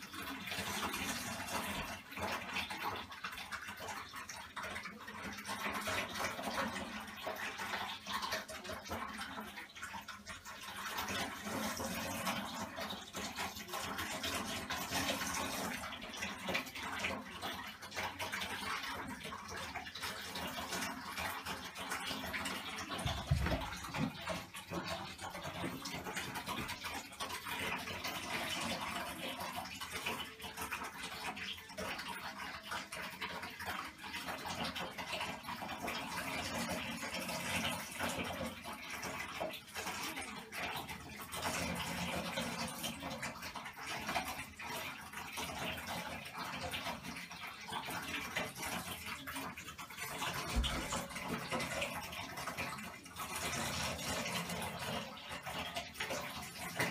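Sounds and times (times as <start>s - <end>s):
water running into bathtub: 0.0s - 56.9s.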